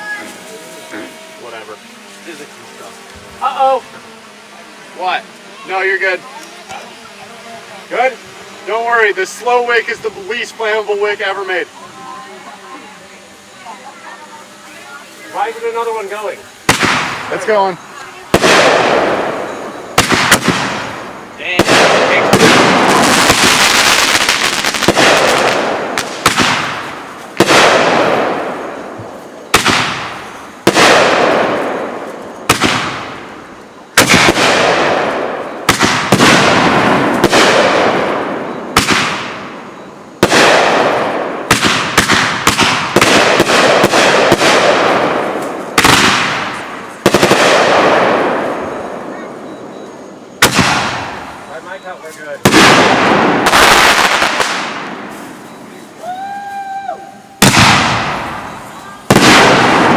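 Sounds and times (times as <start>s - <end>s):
fireworks bangs with crackling hiss: 0.0s - 59.9s.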